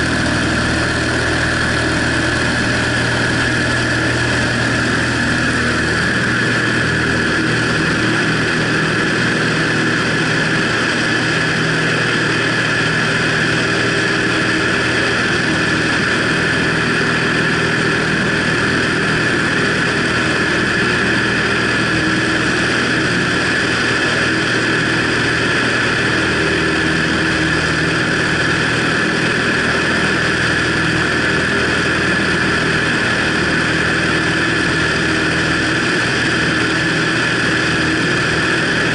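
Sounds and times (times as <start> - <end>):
propeller aircraft engine running: 0.0 - 38.9.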